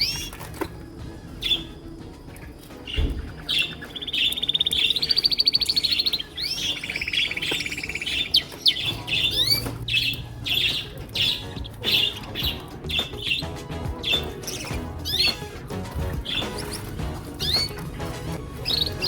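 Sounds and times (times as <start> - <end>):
canaries singing trills: 0.0 - 19.0.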